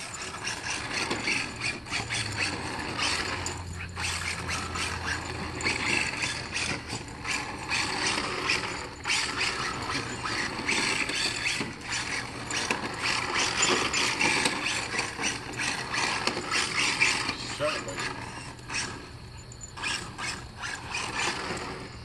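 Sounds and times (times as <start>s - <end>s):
toy car motor whirring: 0.0s - 22.0s.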